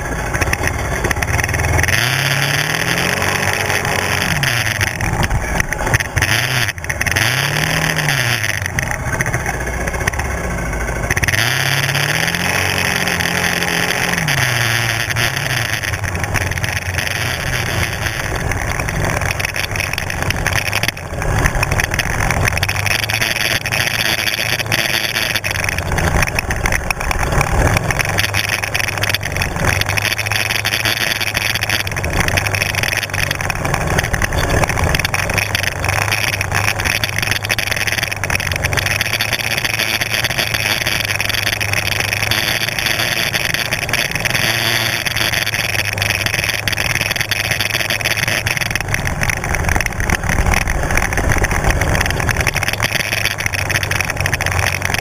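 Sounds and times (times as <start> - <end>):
quad engine running: 0.0 - 55.0
rushing noise and rattle: 0.0 - 55.0.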